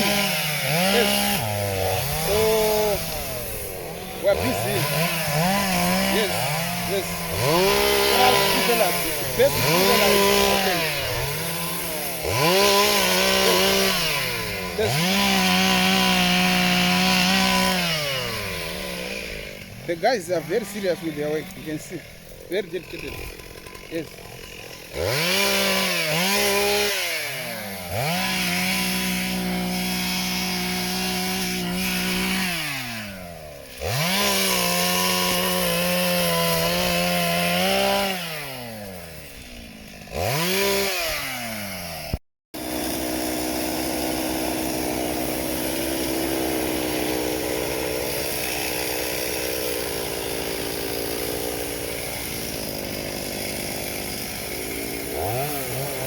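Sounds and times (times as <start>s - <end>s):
chainsaw revving while cutting wood: 0.0s - 56.0s
chainsaw running steadily: 0.0s - 56.0s.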